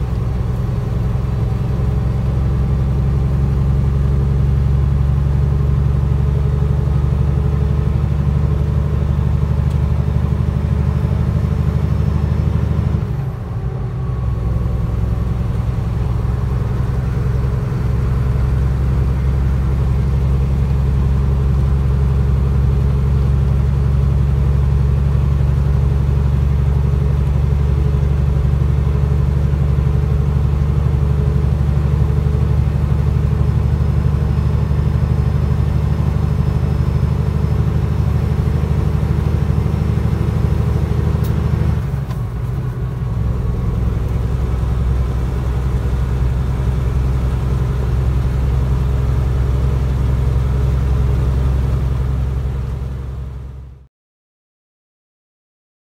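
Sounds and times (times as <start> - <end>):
truck diesel engine droning: 0.0 - 53.9.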